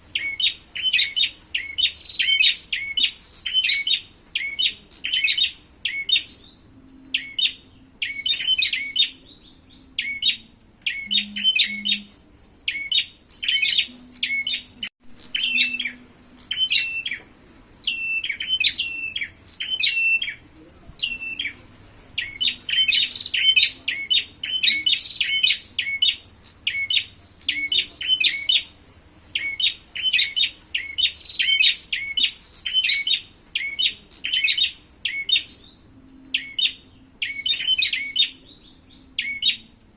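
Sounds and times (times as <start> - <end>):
birds chirping sharply: 0.0 - 39.9.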